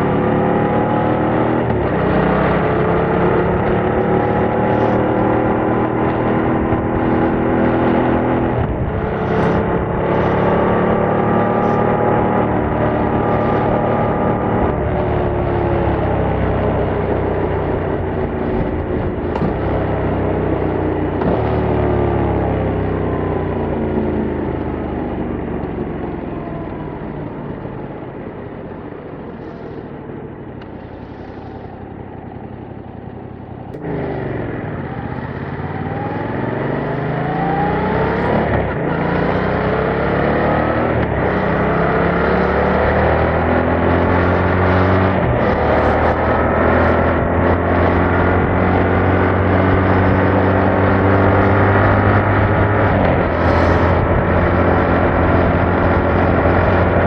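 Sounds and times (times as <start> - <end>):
motorcycle engine revving: 0.0 - 27.0, 29.0 - 57.0.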